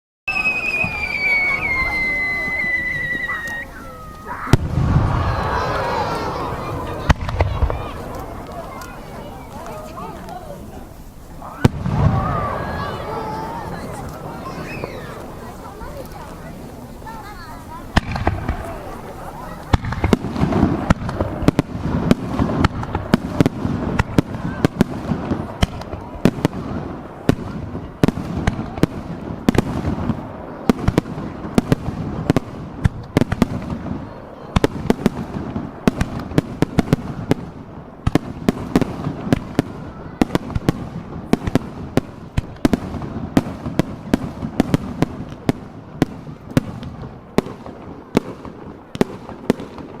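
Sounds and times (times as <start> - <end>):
fireworks bangs: 0.3 - 50.0.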